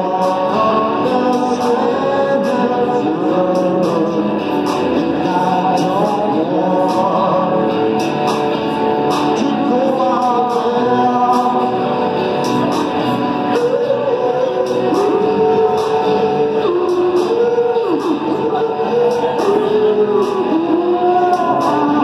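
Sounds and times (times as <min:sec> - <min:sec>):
drums: 0:00.0 - 0:22.0
electric guitar: 0:00.0 - 0:22.0.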